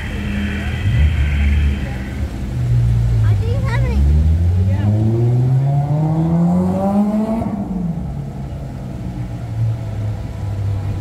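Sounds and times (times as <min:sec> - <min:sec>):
vehicle engine accelerating: 0:00.0 - 0:11.0.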